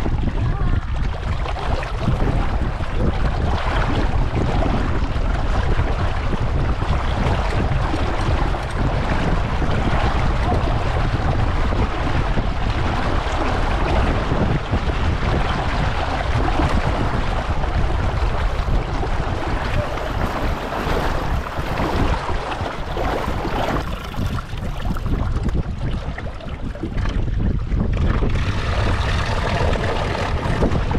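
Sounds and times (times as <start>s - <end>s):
water splashing along boat hull: 0.0s - 30.9s
wind buffeting microphone: 0.0s - 30.9s.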